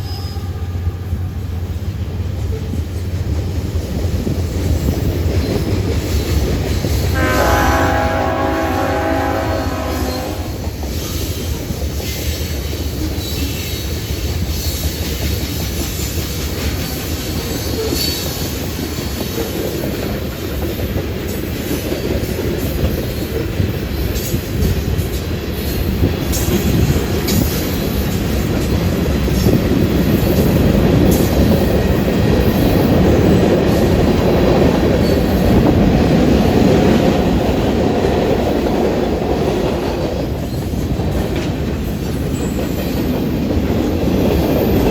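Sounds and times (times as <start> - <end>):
train wheels clickety-clack: 0.0 - 44.9.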